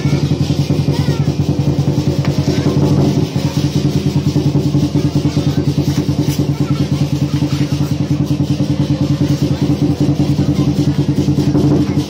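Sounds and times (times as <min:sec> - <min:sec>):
cymbals clashing: 0:00.0 - 0:12.0
drum beating fast rhythm: 0:00.0 - 0:12.0.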